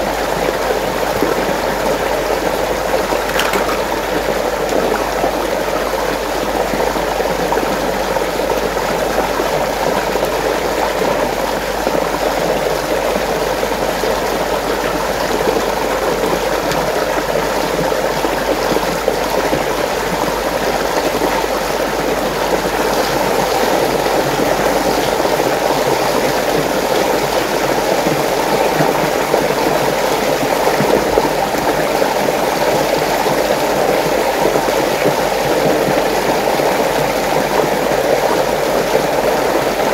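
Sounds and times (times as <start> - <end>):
water rushing in a whirlpool: 0.0 - 39.9.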